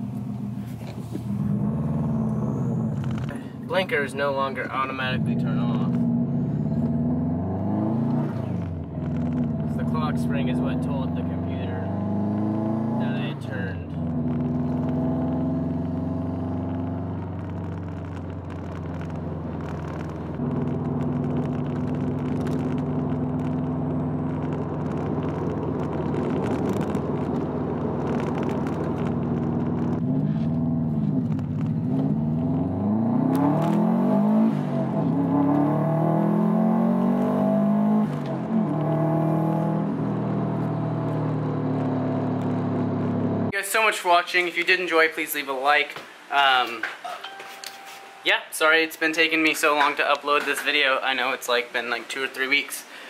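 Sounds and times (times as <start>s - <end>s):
car engine revving: 0.0s - 43.6s.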